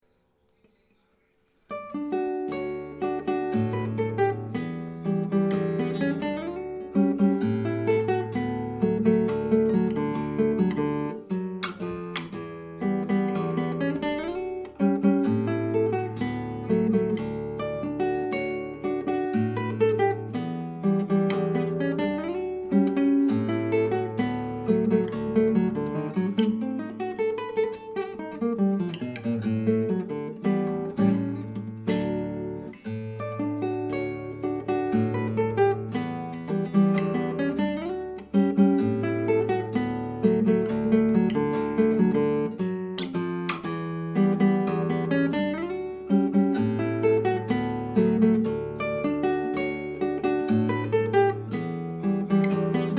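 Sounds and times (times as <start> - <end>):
acoustic guitar music: 0.0 - 52.9.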